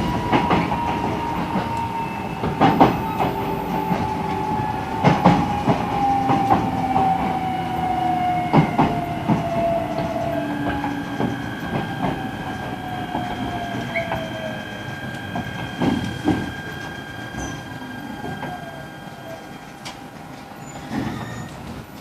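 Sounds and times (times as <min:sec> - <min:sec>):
train inverter whining: 0:00.0 - 0:22.0
wheels clicking over rail joints: 0:00.0 - 0:22.0.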